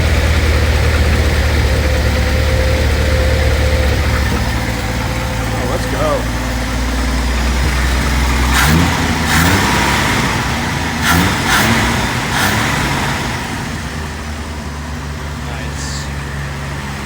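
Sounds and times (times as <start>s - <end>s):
pickup engine idling and revving: 0.0s - 17.0s.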